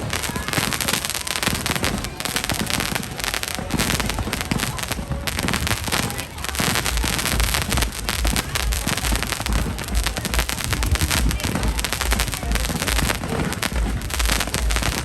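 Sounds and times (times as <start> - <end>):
fireworks crackling bangs: 0.0 - 15.0
fireworks low booms: 0.0 - 15.0.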